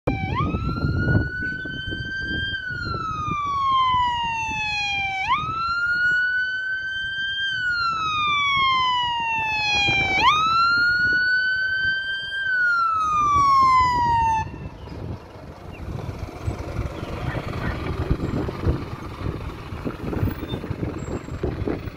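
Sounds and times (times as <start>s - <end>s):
fire truck siren wailing: 0.0s - 21.9s
low vehicle noise: 0.1s - 21.9s.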